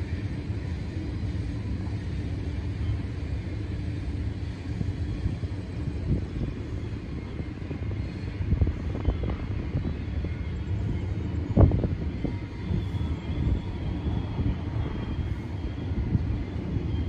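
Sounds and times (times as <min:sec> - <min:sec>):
distant freight train rumbling: 0:00.0 - 0:17.0.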